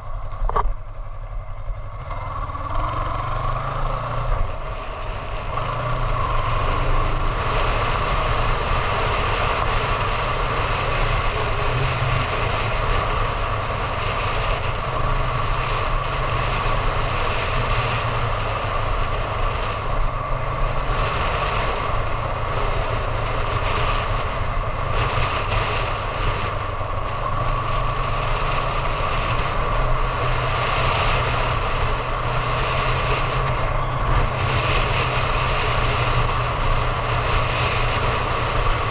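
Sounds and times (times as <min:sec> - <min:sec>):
motorcycle engine running: 0:00.0 - 0:38.9
wind noise on microphone: 0:03.6 - 0:38.9.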